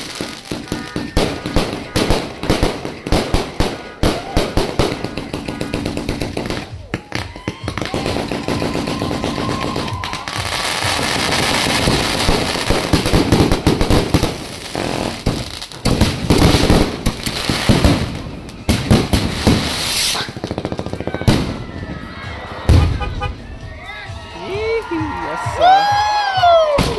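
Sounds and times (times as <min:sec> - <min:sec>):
fireworks bangs and crackling: 0:00.0 - 0:23.7, 0:25.6 - 0:26.9.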